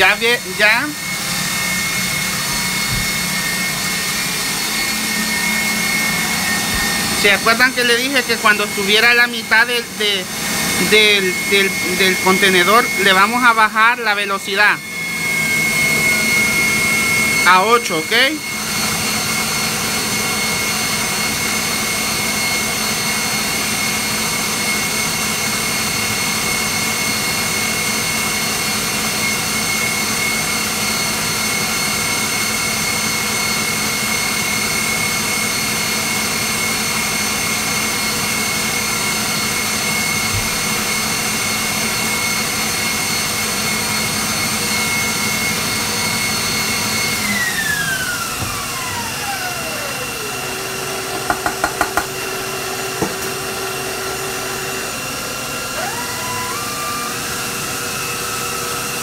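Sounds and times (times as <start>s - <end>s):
stand mixer motor whining: 0.0s - 59.0s.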